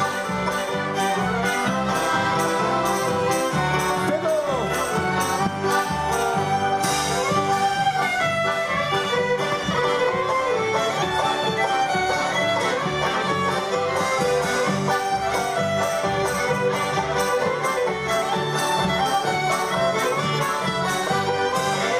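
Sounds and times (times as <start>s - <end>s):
accordions: 0.0s - 21.9s
banjo: 0.0s - 21.9s
fiddles: 0.0s - 21.9s.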